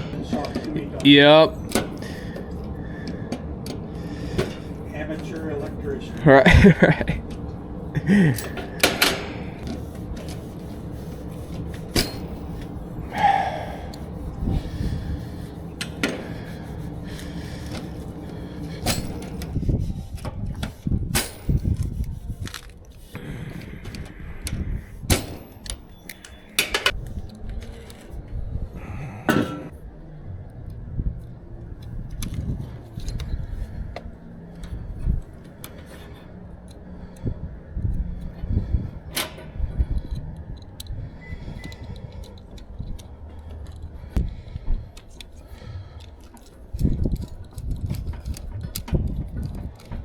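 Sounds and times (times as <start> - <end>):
hand tools clicking and rattling: 0.0 - 28.3, 31.2 - 37.2, 37.8 - 50.0.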